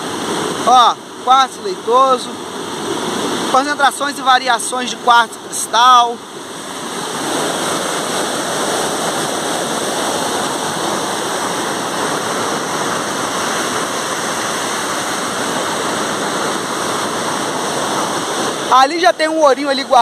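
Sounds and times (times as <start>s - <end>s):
waterfall stream rushing: 0.0s - 20.0s.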